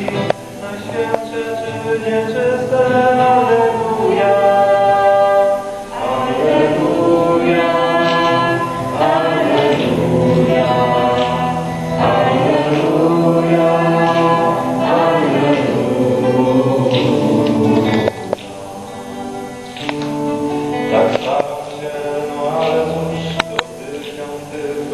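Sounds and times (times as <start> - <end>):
acoustic guitar: 0.0 - 24.9
man and woman singing: 0.0 - 24.9.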